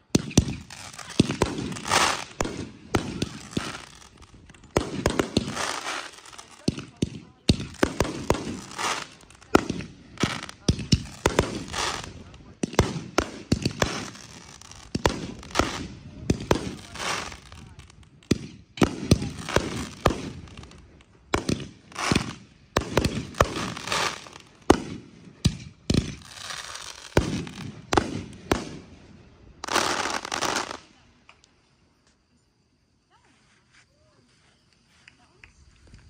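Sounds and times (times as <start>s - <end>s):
fireworks bangs: 0.0s - 30.8s
fireworks crackling: 0.0s - 31.4s.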